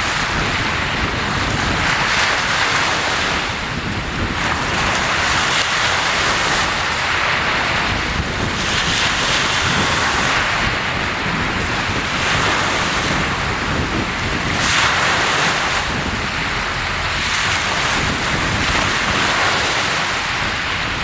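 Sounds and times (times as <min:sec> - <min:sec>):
sea waves breaking on shore: 0:00.0 - 0:21.0
wind rumbling on microphone: 0:00.0 - 0:21.0.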